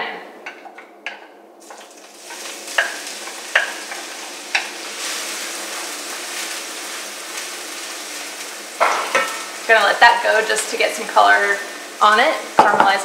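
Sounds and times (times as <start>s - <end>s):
onion sizzling in oil: 1.6s - 13.0s.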